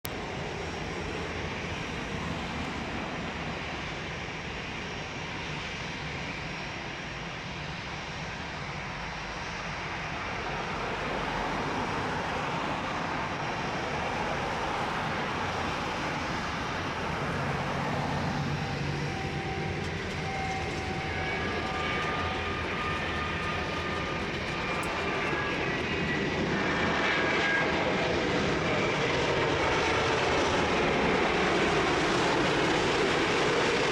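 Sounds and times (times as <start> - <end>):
jet engines roaring: 0.1 - 33.9.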